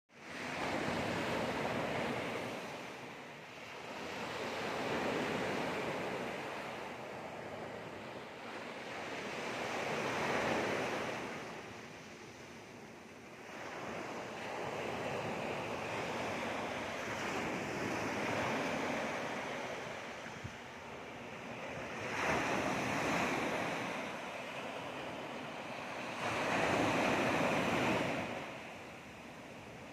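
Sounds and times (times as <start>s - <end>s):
wind: 0.1s - 29.9s
sea waves breaking on shore: 0.2s - 29.9s.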